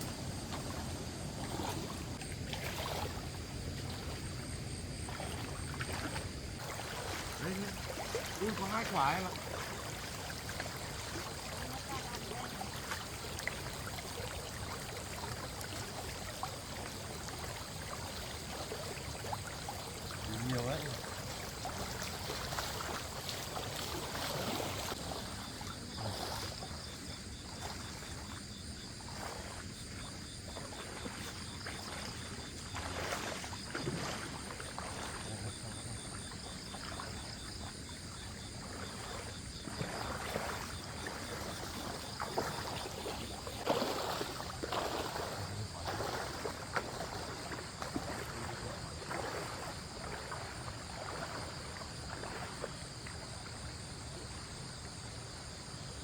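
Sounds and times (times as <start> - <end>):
water trickling: 0.0 - 53.4
wading through shallow stream: 0.0 - 56.0.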